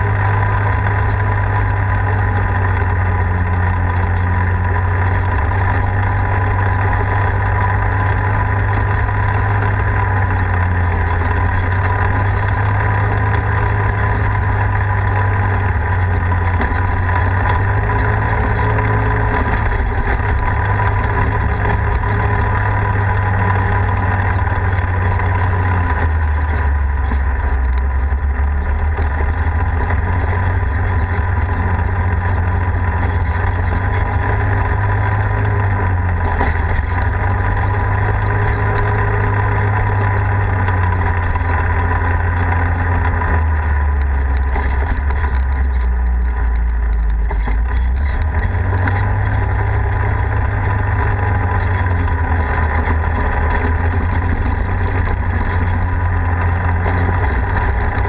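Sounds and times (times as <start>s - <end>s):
off-road vehicle engine running: 0.0s - 58.0s.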